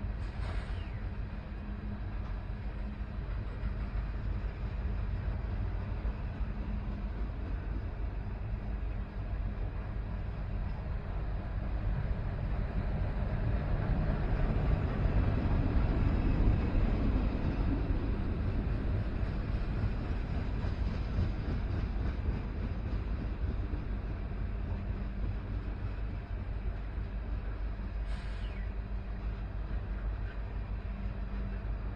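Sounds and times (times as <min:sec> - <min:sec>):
locomotive engine drone: 0:00.0 - 0:31.9
train wheels rumbling: 0:00.0 - 0:31.9.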